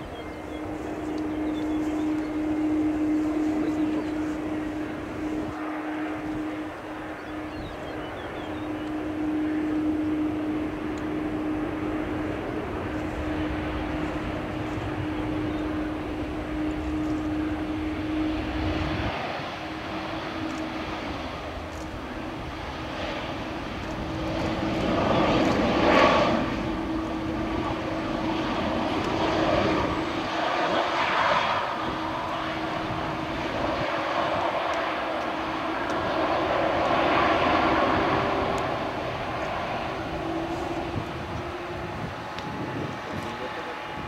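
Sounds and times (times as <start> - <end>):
jet engine roar: 0.0 - 44.0.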